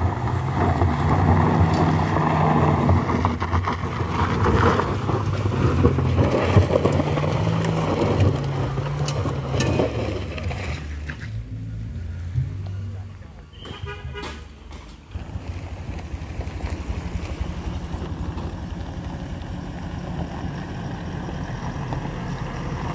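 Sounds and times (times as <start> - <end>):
car engine pulling uphill: 0.0 - 13.6, 14.3 - 22.9
tyres crunching over gravel: 0.0 - 22.9.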